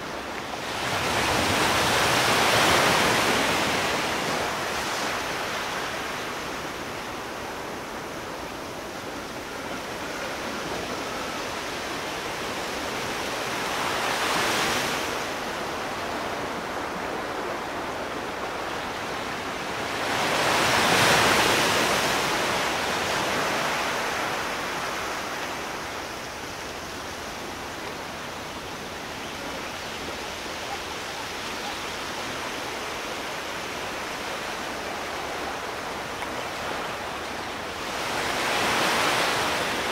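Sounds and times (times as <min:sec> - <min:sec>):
waves breaking: 0:00.0 - 0:39.9
waves washing: 0:00.0 - 0:39.9.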